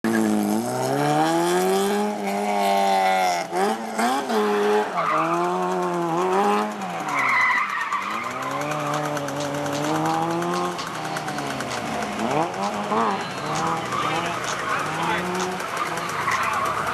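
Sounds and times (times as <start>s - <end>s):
sports car engine revving: 0.1s - 16.9s.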